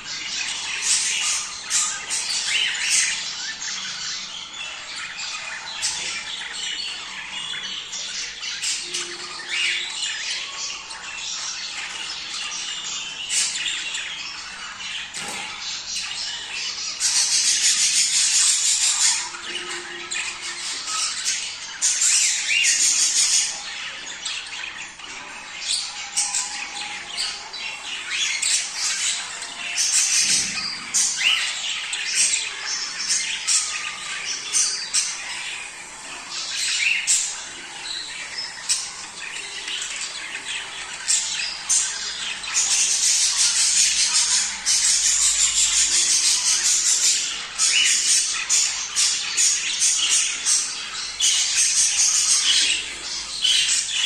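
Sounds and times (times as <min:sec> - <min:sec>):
budgerigars chattering and squawking: 0:00.0 - 0:54.0.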